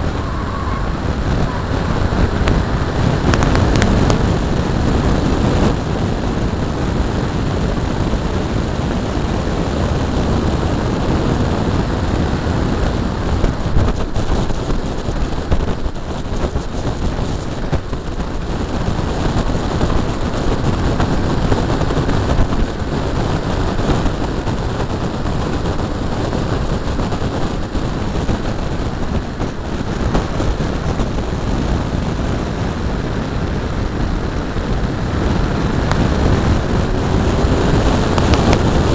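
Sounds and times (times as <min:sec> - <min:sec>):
road noise rumble: 0:00.0 - 0:38.9
wind rushing: 0:00.0 - 0:38.9.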